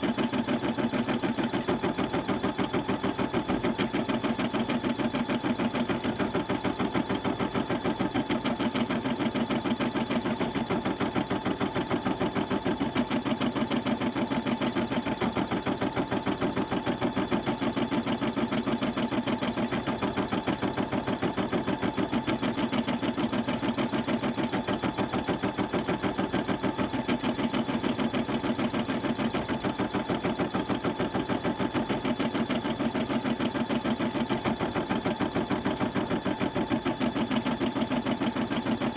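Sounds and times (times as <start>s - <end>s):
embroidery machine stitching: 0.0s - 38.9s.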